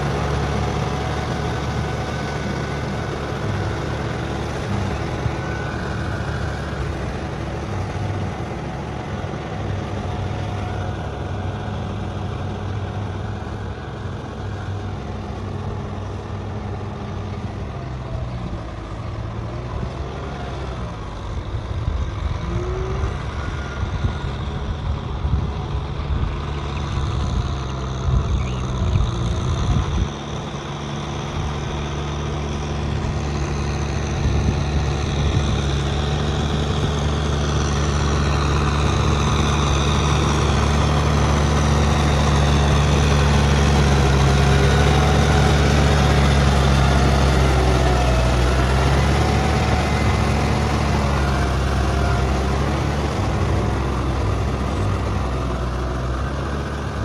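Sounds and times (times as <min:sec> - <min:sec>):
tractor diesel engine droning: 0:00.0 - 0:57.0.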